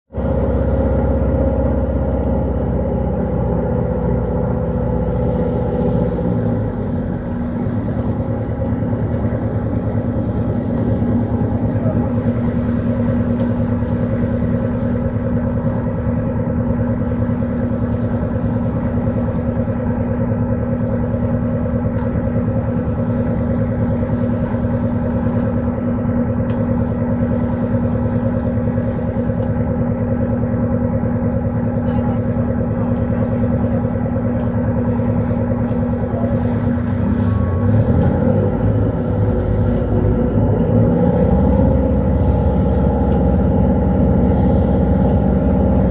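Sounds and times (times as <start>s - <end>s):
boat engine running: 0.1s - 45.9s.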